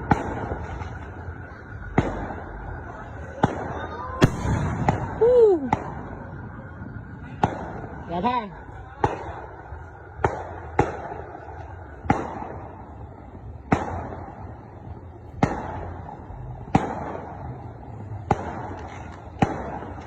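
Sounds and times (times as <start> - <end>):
firework bangs with hiss: 0.0 - 20.0.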